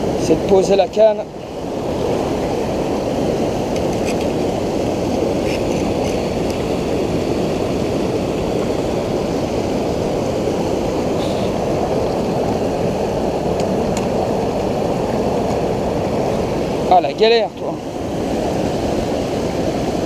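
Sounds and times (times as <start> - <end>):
river rushing between rocks: 0.0 - 20.0.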